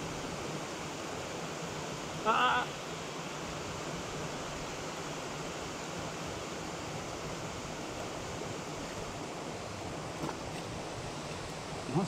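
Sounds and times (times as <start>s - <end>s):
stream water running over rocks: 0.0s - 12.0s.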